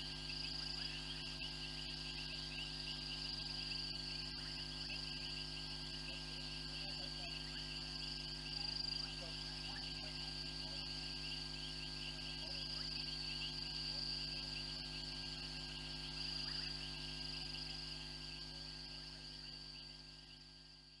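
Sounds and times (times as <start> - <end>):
crickets chirring: 0.0 - 21.0.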